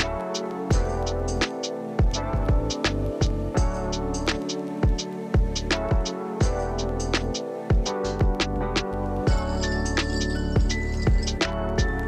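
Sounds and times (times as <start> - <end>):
electronic music with synth chords: 0.0 - 12.0.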